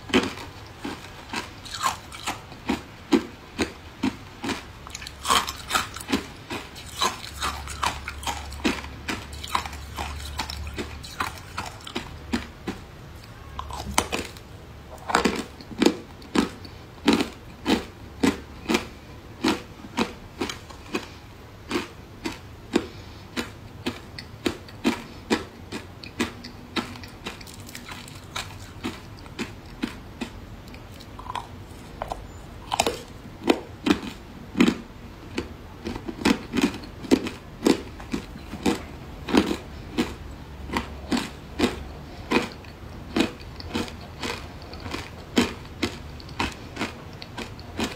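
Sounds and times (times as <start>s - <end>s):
ice cubes crunching when chewed: 0.0s - 47.9s.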